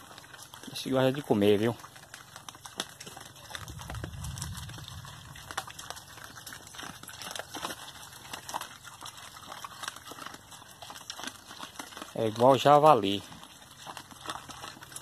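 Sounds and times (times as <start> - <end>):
pigs chomping wet swill: 0.0 - 15.0.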